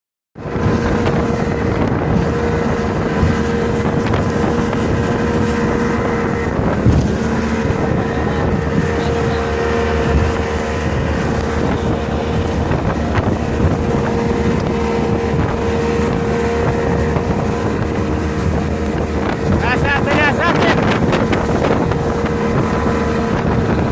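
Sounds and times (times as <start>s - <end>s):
motorboat engine humming: 0.4s - 23.9s
wind buffeting microphone: 0.4s - 23.9s.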